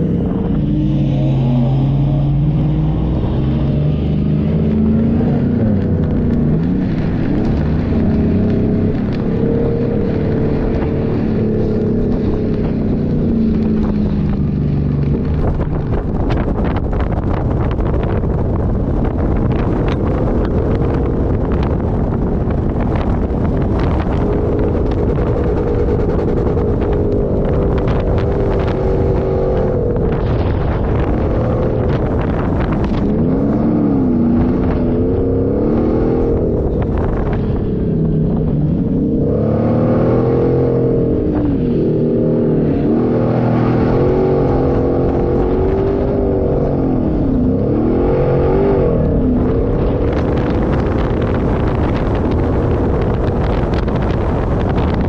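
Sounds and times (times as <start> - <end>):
constant rushing noise: 0.0 - 55.0
off-road engine revving: 0.0 - 55.0.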